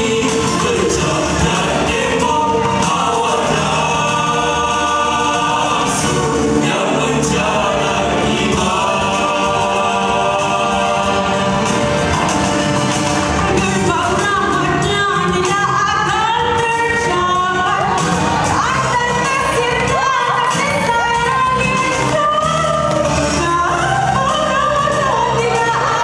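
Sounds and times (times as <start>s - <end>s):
vocal group singing in harmony: 0.0s - 26.0s.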